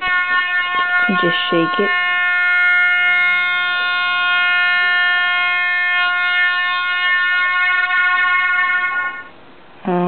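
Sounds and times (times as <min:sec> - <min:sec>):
air horn blast from speaker: 0:00.0 - 0:09.4.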